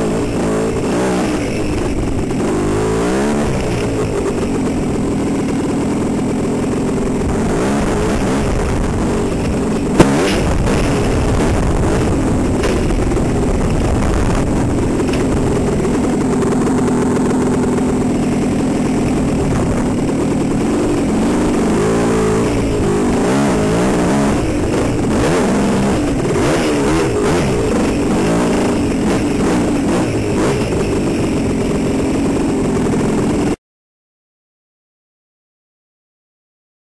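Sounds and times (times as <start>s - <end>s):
dirt bike engine revving: 0.0s - 33.6s.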